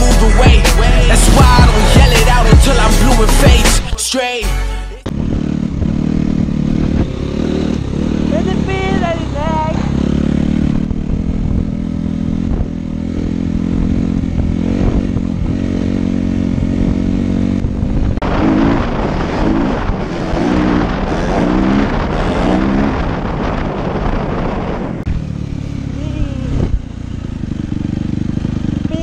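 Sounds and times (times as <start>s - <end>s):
dirt bike engine revving: 0.0s - 3.9s, 5.0s - 29.0s.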